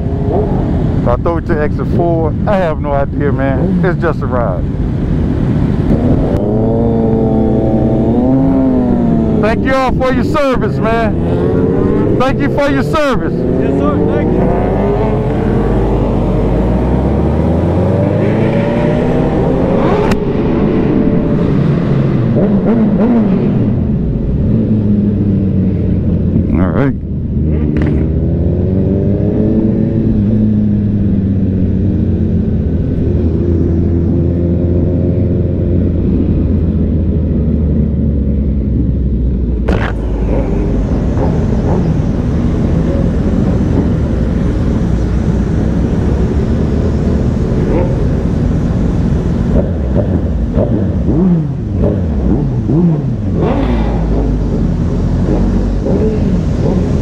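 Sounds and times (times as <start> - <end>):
motorcycle engine revving: 2.5 - 57.0.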